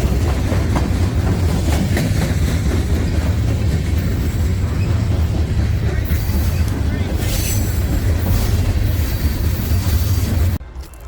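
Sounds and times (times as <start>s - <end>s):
freight train rumbling past: 0.0s - 10.6s.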